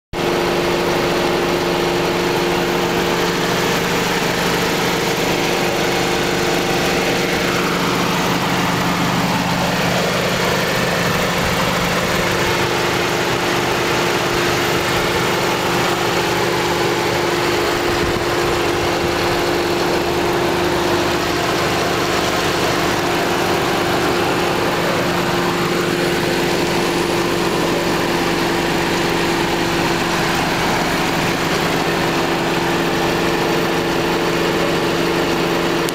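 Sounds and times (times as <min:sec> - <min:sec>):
car engine idling: 0:00.2 - 0:35.9.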